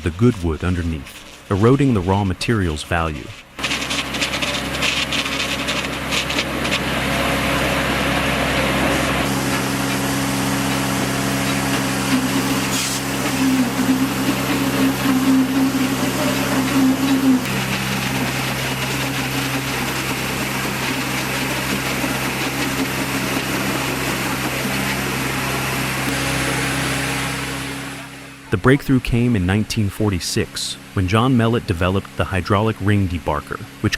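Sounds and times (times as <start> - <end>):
sawmill machinery humming: 0.0 - 33.9.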